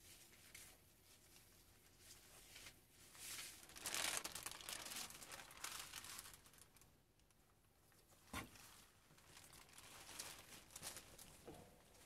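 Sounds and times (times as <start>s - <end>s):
paper rustling and crinkling: 0.0s - 6.8s, 8.3s - 12.0s.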